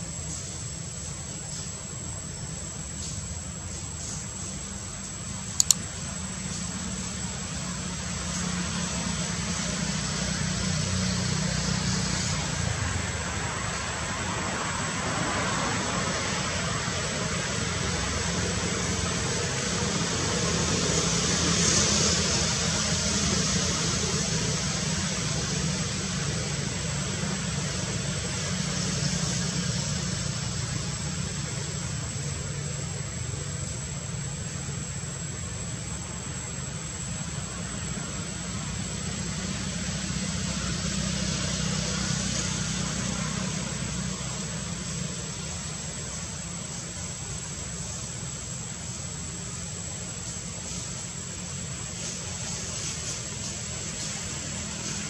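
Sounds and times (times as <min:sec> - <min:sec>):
even hiss: 0:00.0 - 0:55.0.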